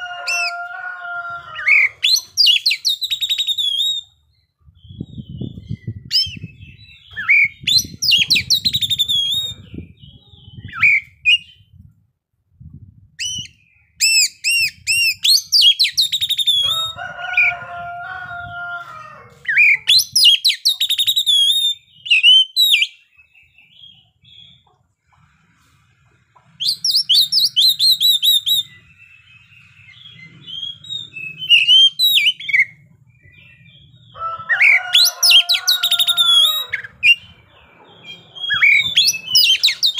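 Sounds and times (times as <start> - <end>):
bird singing varied song: 1.6 - 11.8, 13.2 - 17.0, 19.4 - 24.7, 26.4 - 39.9.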